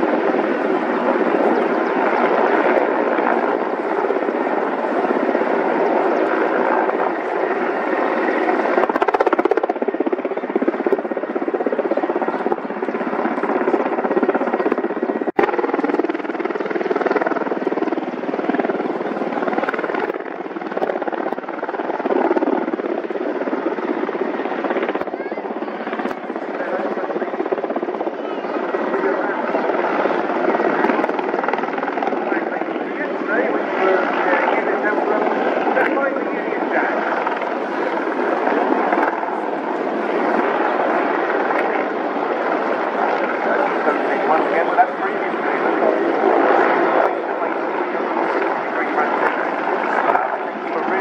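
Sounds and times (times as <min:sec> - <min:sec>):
military helicopters flying by: 0:00.0 - 0:51.0.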